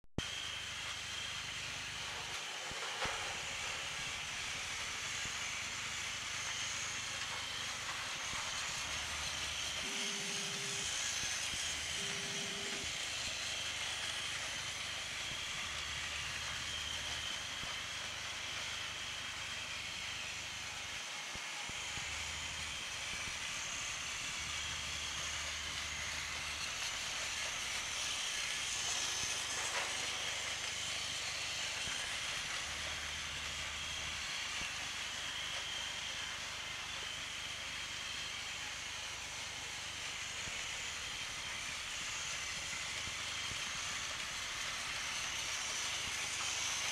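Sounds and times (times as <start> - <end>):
toy train motor whirring: 0.2 - 46.9.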